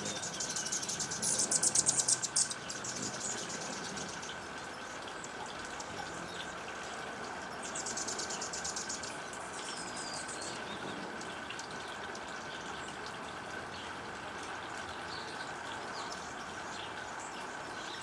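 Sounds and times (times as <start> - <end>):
hummingbirds chattering: 0.0 - 18.0.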